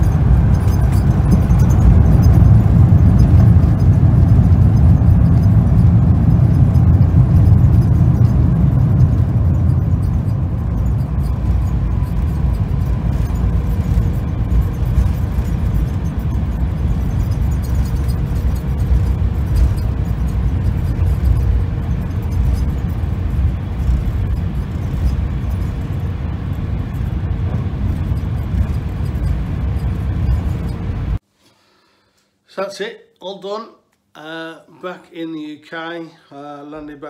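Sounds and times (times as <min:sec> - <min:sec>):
airliner engines and wheels rumbling: 0:00.0 - 0:31.2.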